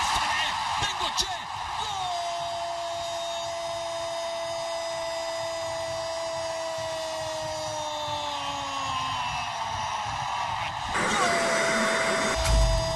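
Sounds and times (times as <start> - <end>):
stadium crowd noise: 0.0 - 12.9.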